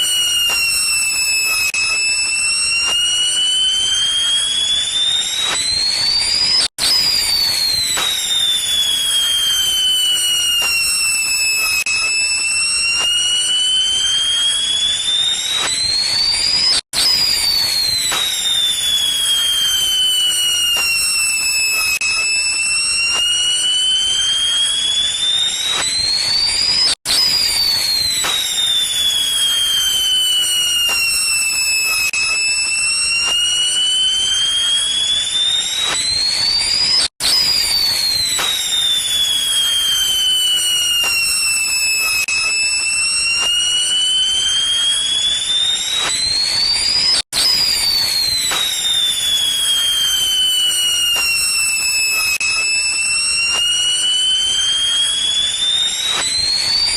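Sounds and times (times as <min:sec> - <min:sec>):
high-pitched whistling tone: 0:00.0 - 0:56.9.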